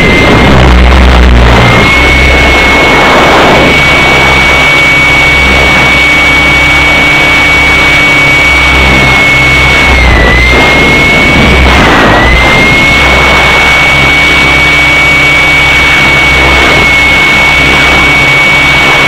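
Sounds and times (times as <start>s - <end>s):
helicopter drivetrain whine: 0.0s - 19.0s
low rotor rumble: 0.0s - 19.0s
wind noise: 0.0s - 19.0s.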